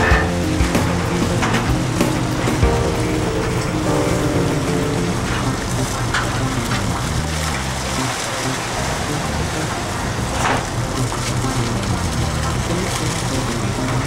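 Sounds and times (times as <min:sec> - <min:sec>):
boat engine humming: 0:00.0 - 0:14.0
rough sea rushing: 0:00.0 - 0:14.0.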